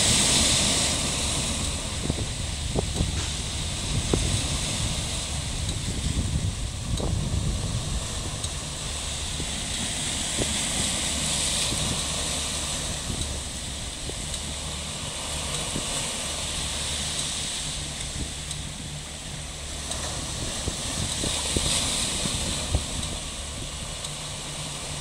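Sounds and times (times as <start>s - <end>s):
boat engine drone: 0.0s - 25.0s
wind and sea hiss: 0.0s - 25.0s.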